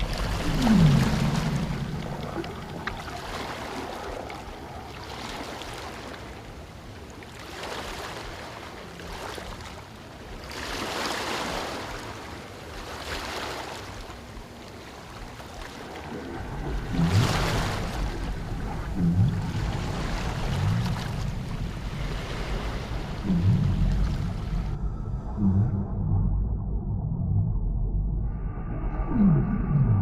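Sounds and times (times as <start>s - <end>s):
water surging: 0.0s - 24.8s.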